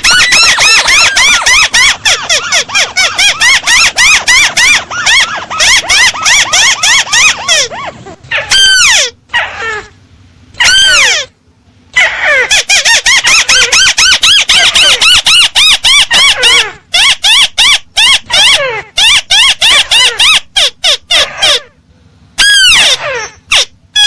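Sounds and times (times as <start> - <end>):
recorded bird call: 0.0 - 9.9, 10.5 - 21.8, 22.4 - 24.0.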